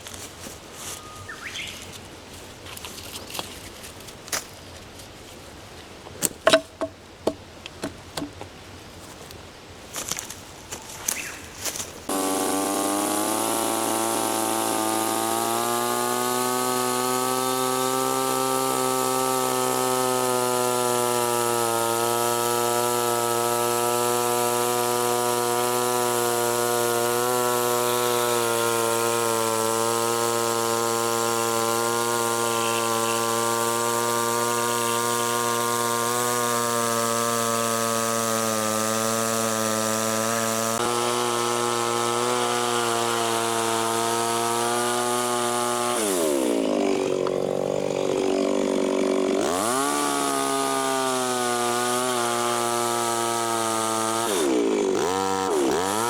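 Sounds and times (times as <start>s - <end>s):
chainsaw cutting wood: 6.2s - 8.5s, 11.0s - 56.0s.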